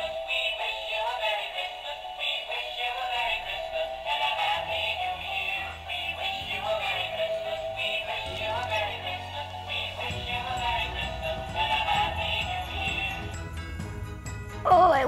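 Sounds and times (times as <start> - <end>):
electronic christmas melody: 0.0 - 15.0.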